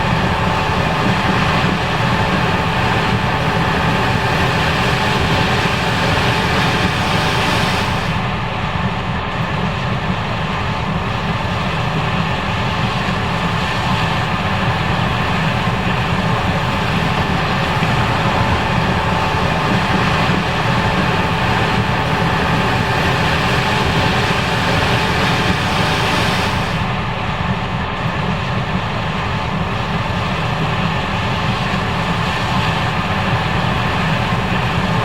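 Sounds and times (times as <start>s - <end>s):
combine harvester drone: 0.0s - 35.0s
steady mechanical whine: 0.0s - 35.0s.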